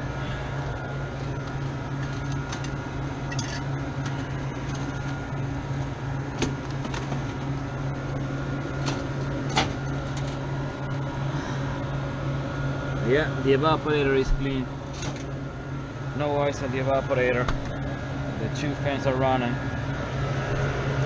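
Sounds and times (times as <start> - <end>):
freezer fans humming: 0.0 - 21.0.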